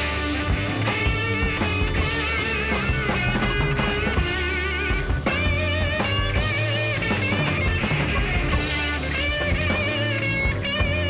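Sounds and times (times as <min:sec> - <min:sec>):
electric guitar lead bent notes: 0:00.0 - 0:11.0
low bass: 0:00.0 - 0:11.0
rock music: 0:00.0 - 0:11.0.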